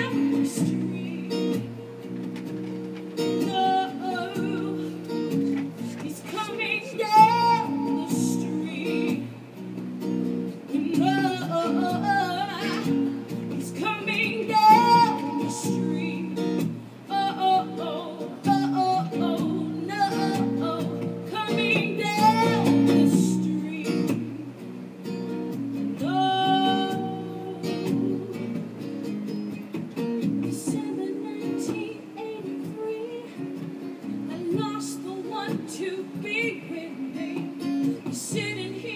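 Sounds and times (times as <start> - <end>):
person singing: 0.0 - 2.0, 3.2 - 9.4, 10.6 - 24.8, 26.0 - 28.8, 30.4 - 33.7, 34.3 - 38.9
guitar chords: 0.0 - 38.9.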